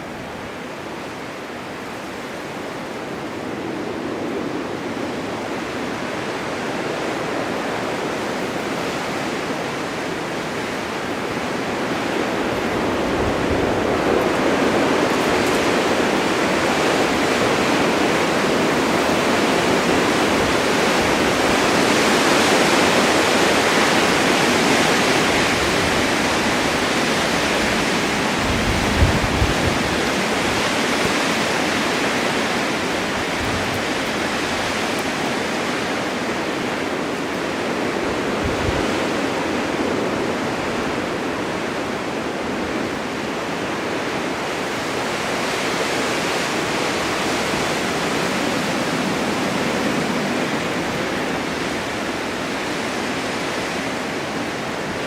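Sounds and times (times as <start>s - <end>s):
blizzard wind hissing: 0.0s - 55.0s.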